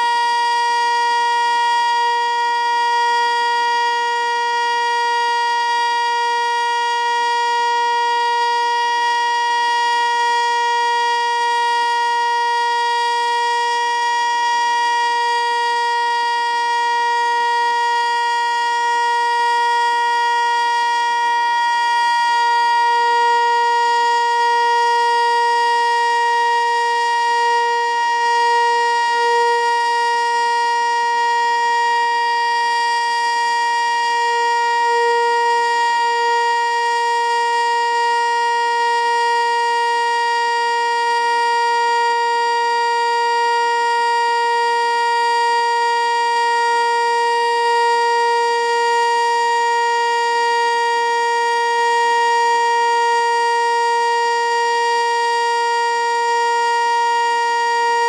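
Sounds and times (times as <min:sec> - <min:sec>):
steady warning siren tone: 0:00.0 - 0:58.0.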